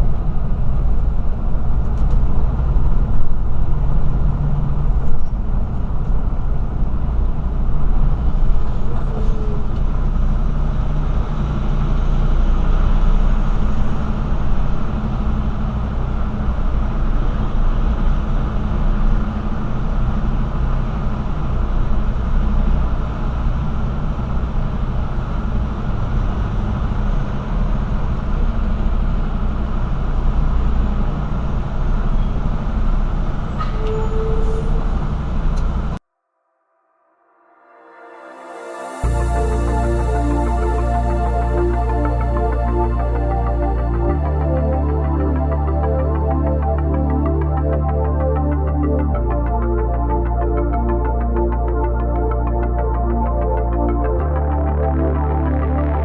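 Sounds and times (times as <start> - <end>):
road noise: 0.0 - 36.0, 37.3 - 56.0
truck engine rumble: 0.0 - 36.0, 39.0 - 55.6.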